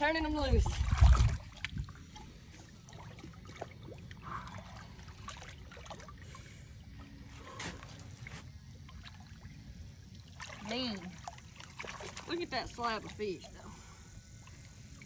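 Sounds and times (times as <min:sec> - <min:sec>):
low steady rumble: 0:00.0 - 0:15.0
water sloshing and trickling: 0:00.0 - 0:15.0
small splashes: 0:00.6 - 0:15.0.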